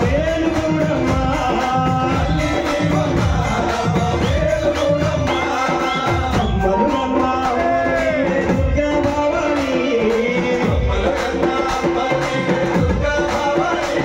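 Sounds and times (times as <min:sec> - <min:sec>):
hand drum beat: 0:00.0 - 0:14.0.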